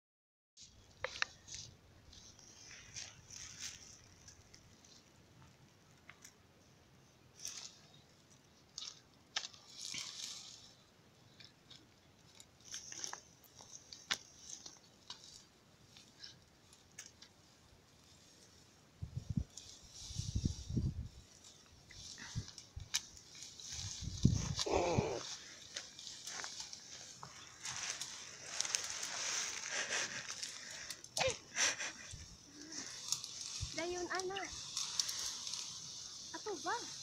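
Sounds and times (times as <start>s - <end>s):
rustling dry grass: 0.6s - 37.0s.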